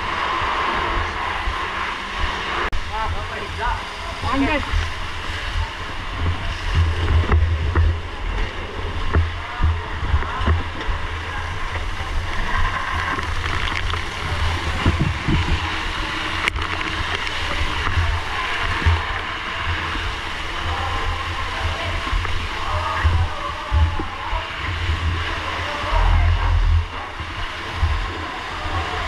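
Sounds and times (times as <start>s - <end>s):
low rumble: 0.0s - 29.0s
water spraying and splashing: 0.0s - 29.0s.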